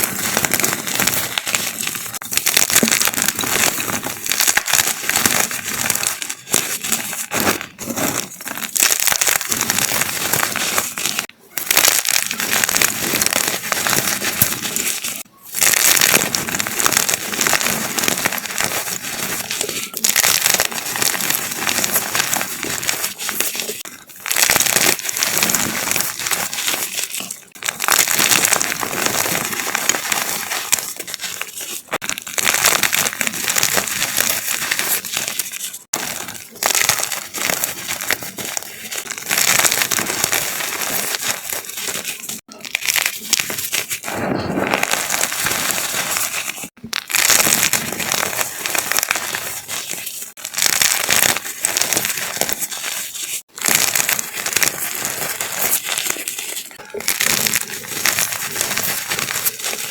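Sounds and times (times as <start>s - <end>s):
chalk being crushed: 0.0s - 59.9s.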